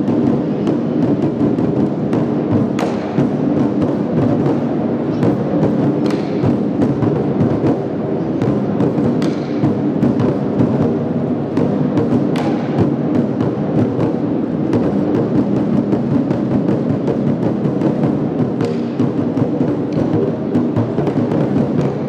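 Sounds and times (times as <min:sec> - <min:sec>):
large barrel drums struck: 0:00.0 - 0:22.0.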